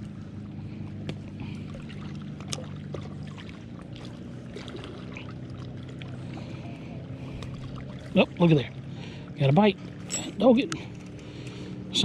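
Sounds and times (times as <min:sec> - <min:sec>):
steady low hum: 0:00.0 - 0:12.0
waves lapping against rocks: 0:00.1 - 0:11.8.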